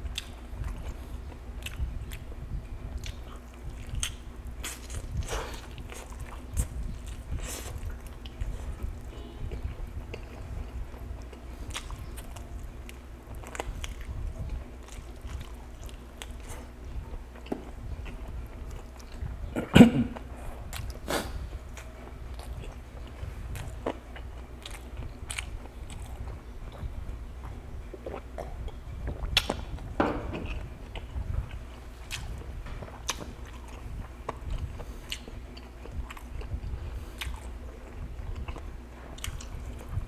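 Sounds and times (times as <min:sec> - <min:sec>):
chewing and biting food: 0:00.1 - 0:02.3, 0:02.9 - 0:19.4, 0:20.2 - 0:40.0.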